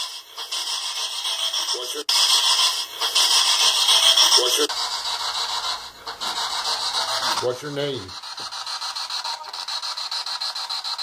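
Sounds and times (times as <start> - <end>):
chopped radio static: 0.0 - 11.0.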